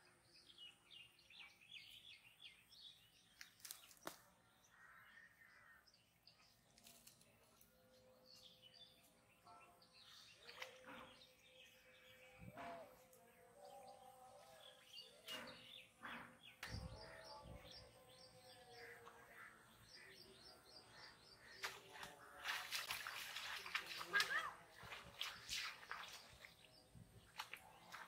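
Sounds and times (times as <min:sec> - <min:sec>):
small birds chirping: 0:00.2 - 0:28.0.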